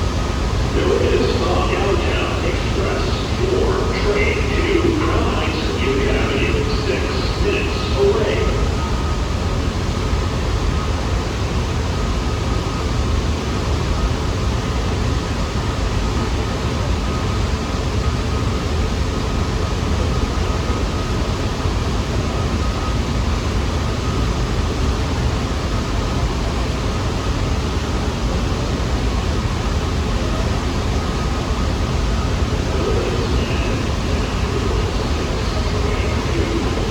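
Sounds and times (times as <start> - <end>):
faint steady whine: 0.0 - 36.9
subway train rumble: 0.0 - 36.9.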